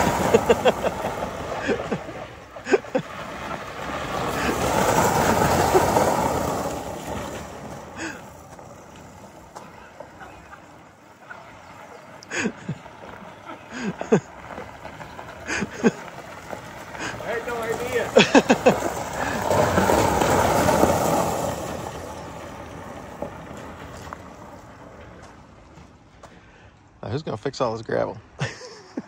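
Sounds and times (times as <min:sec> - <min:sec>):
tyres skidding on gravel: 0:00.0 - 0:29.0.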